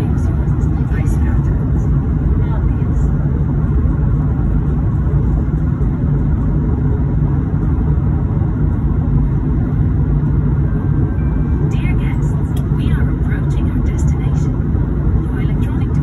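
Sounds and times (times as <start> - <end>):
jet engines rumbling in a cabin: 0.0 - 16.0.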